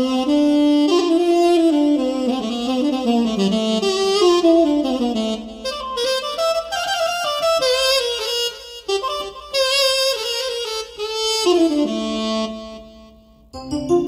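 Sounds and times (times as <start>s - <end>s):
keyboard wind instrument melody: 0.0s - 14.0s.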